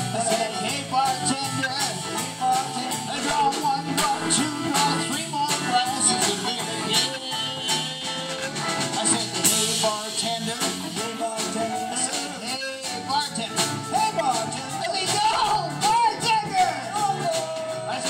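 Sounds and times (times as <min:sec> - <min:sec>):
drum kit: 0:00.0 - 0:18.0
electric keyboard: 0:00.0 - 0:18.0
man singing: 0:00.0 - 0:18.0.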